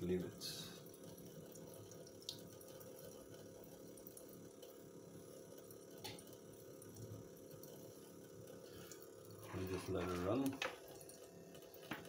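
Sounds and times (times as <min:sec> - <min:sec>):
faint water drips: 0:00.0 - 0:12.0
small water pump humming: 0:00.0 - 0:12.0
water trickling through jar: 0:00.0 - 0:12.0.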